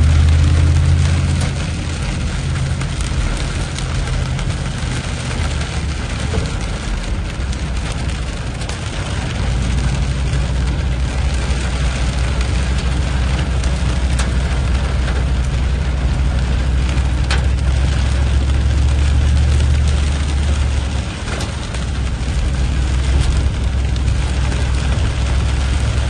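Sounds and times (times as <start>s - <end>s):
rain and tyres hissing on road: 0.0s - 26.0s
vehicle engine humming: 0.0s - 26.0s.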